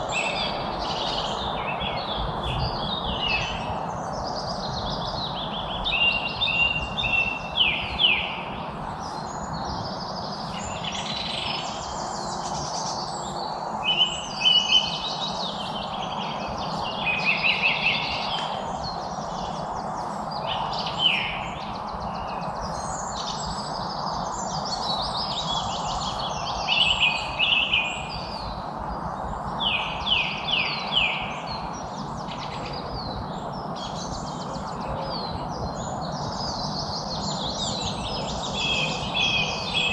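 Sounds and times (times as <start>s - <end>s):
outdoor ambience hiss: 0.0s - 39.9s
songbirds singing and chirping: 0.0s - 39.9s.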